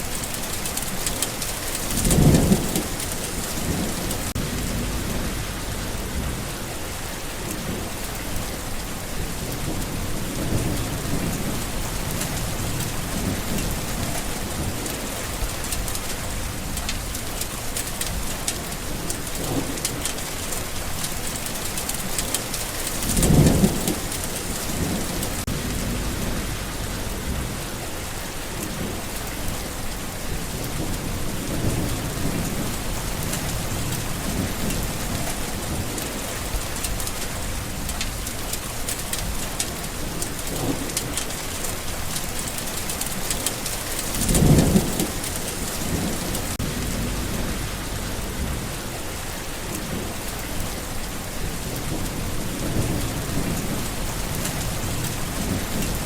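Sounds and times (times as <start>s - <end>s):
heavy rain falling: 0.0s - 56.0s
thunder rumbling: 0.0s - 56.0s.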